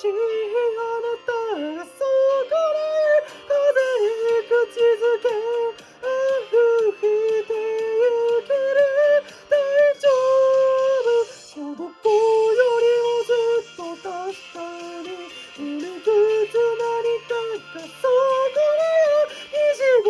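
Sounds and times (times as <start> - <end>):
backing track: 0.0 - 20.0
woman singing pop song: 0.0 - 20.0.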